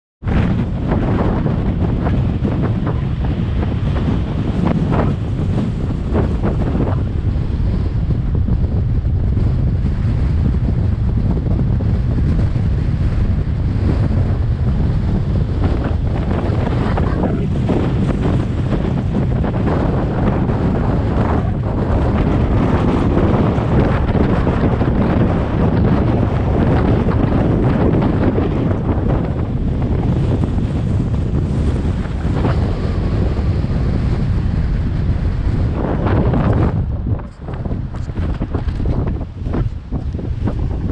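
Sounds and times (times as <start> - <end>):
strong wind buffeting microphone: 0.2 - 40.9.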